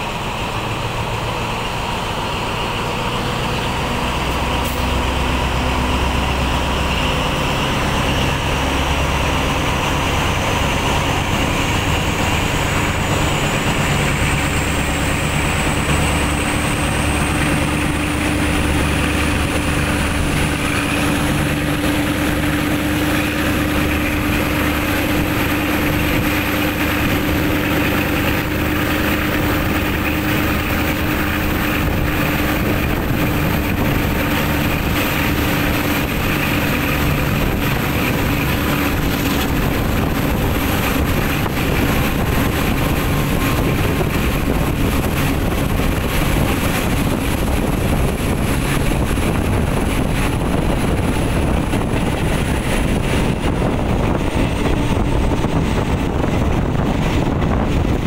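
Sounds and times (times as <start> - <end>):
locomotive engine drone: 0.0 - 58.0
train wheels rolling on rails: 0.0 - 58.0.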